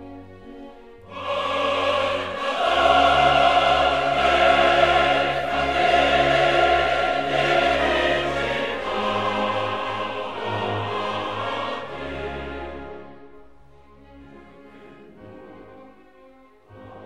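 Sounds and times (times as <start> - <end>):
orchestra with choir singing: 0.0 - 17.0.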